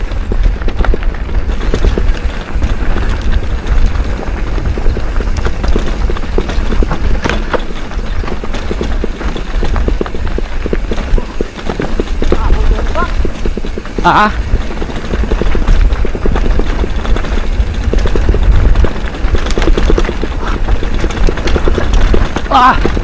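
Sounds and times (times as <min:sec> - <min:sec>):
bike rattling and clattering: 0:00.0 - 0:23.0
low rumble of riding: 0:00.0 - 0:23.0.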